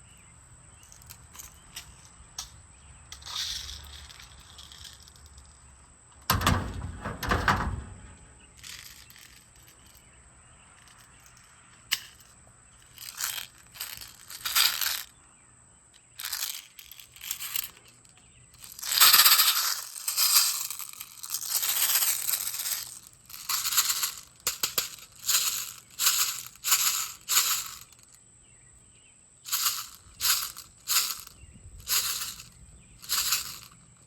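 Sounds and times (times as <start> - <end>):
crunching: 0.8 - 10.1, 10.7 - 15.1, 16.0 - 28.1, 29.5 - 34.0.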